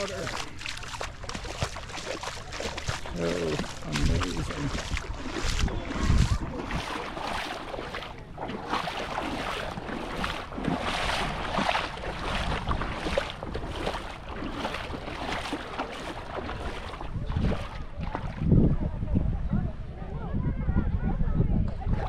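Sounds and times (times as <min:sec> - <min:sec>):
footsteps splashing in water: 0:00.0 - 0:18.5
wind on microphone: 0:01.1 - 0:22.0.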